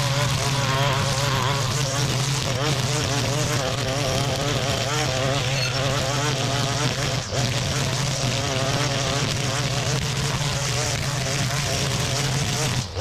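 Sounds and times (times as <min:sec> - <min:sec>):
string trimmer cutting grass: 0:00.0 - 0:13.0.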